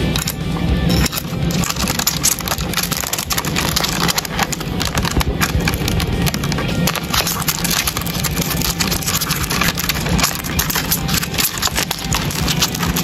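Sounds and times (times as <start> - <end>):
steady low hum: 0.0 - 13.0
beetle legs scraping on bark: 0.1 - 13.0.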